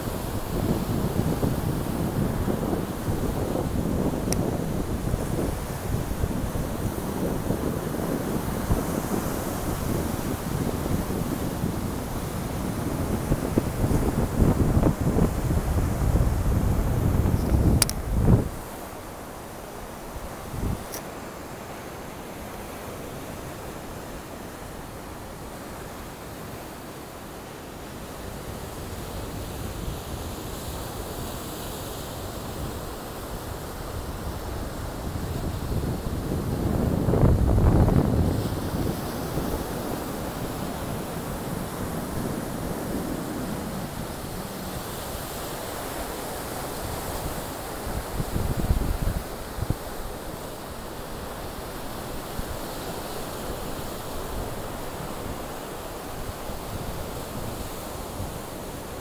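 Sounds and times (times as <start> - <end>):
wind on microphone: 0.0 - 21.1, 28.0 - 59.0
ocean surf breaking over rocks: 0.0 - 59.0.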